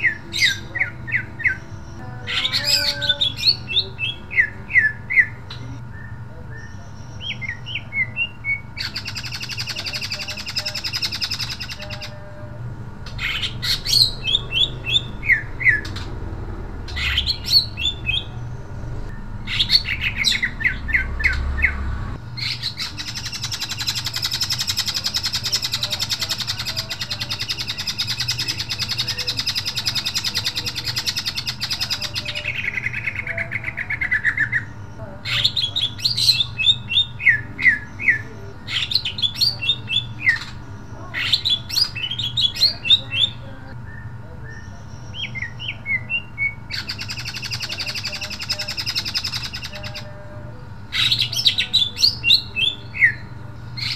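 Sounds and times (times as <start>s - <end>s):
bird chirping and trilling: 0.0s - 53.9s.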